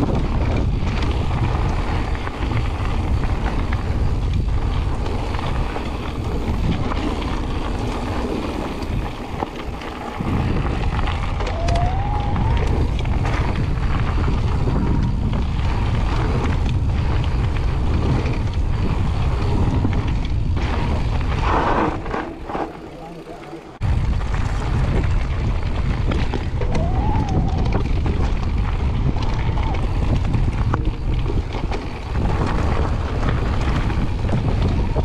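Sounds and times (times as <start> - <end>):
wind buffeting microphone: 0.0 - 22.2, 23.8 - 35.0
bike tyres rolling on gravel: 0.0 - 35.0.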